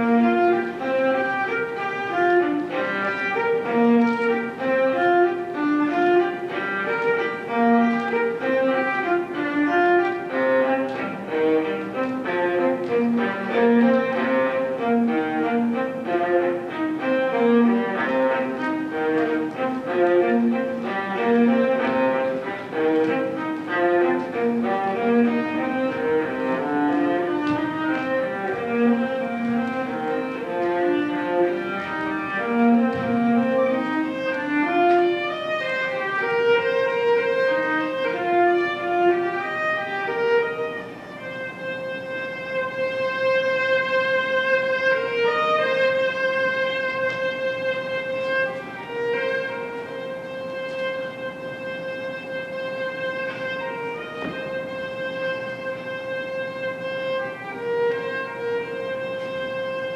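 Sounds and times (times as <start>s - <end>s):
bowed strings chamber music: 0.0s - 59.9s
violin: 0.0s - 59.9s.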